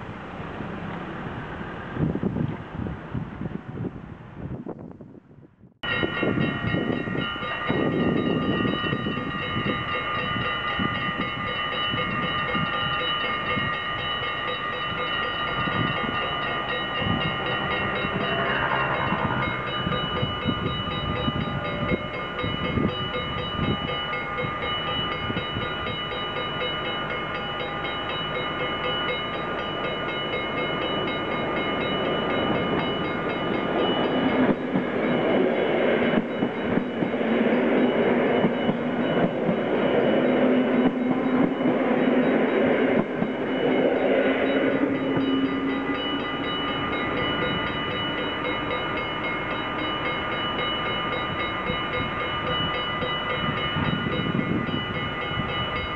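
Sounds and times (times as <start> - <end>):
level-crossing bells ringing: 5.8 - 55.9
train wheels clattering: 6.0 - 55.9.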